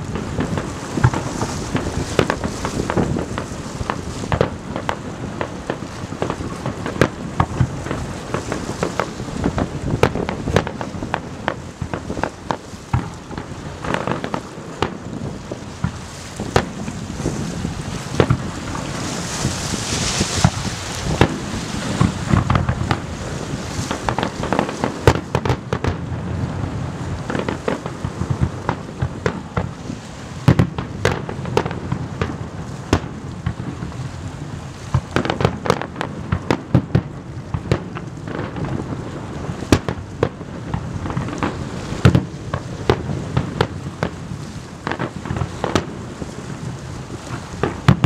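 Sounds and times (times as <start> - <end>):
fireworks crackling: 0.0 - 48.0.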